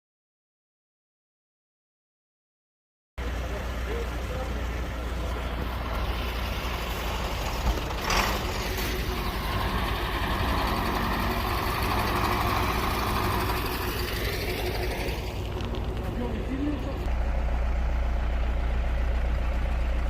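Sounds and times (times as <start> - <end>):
truck engine running: 3.2 - 20.0.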